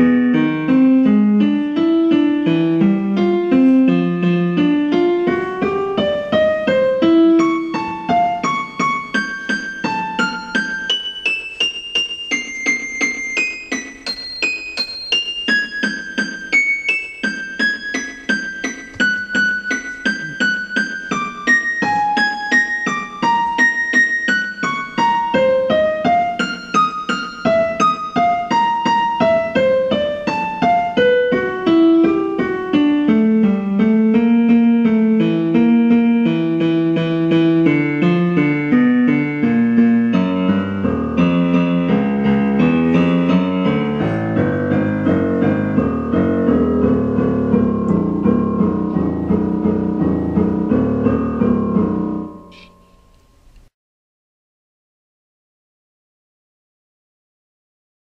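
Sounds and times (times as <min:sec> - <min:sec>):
midi piano single notes: 0:00.0 - 0:53.7.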